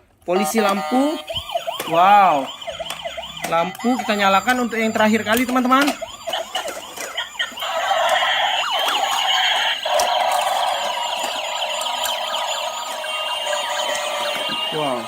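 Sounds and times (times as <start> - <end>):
toy electronic sirens wailing: 0.3 - 15.0.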